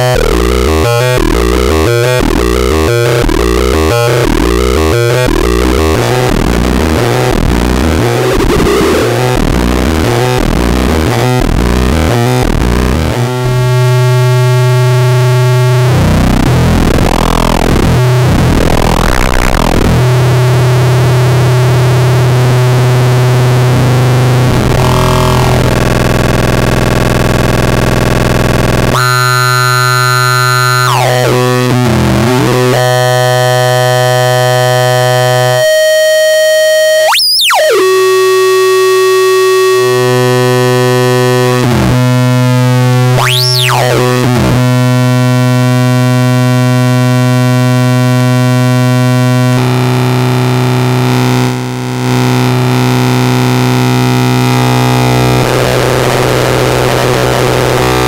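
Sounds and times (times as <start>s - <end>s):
distorted buzzing synthesizer drone: 0.0s - 58.0s.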